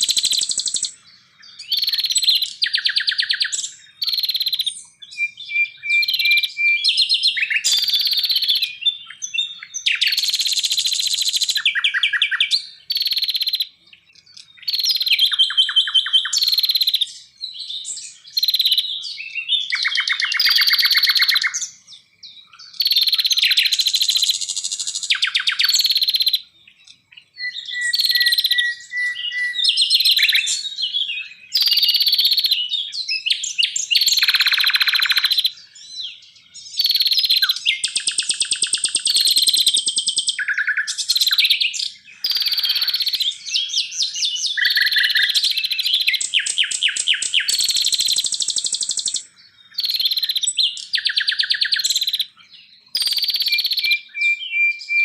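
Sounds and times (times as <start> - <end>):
songbird whistles and trills: 0.0 - 55.0.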